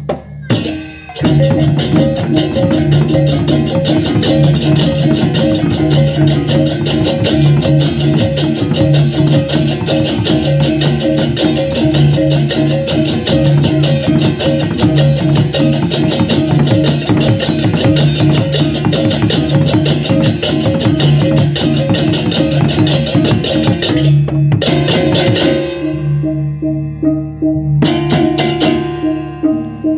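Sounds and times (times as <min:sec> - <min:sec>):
drums: 0:00.0 - 0:26.4, 0:27.8 - 0:29.9
hand cymbals clashing: 0:00.4 - 0:29.9
gong tones: 0:00.5 - 0:29.9.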